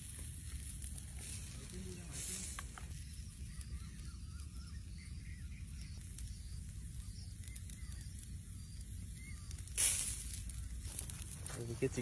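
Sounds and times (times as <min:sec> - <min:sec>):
charcoal hissing: 0:00.0 - 0:12.0.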